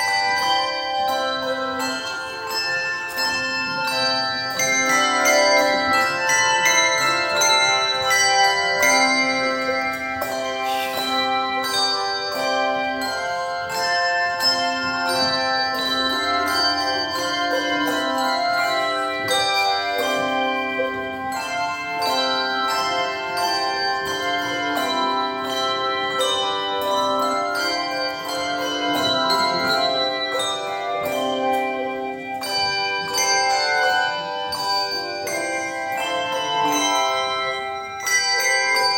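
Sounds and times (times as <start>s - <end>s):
tuned bells ringing: 0.0s - 38.9s.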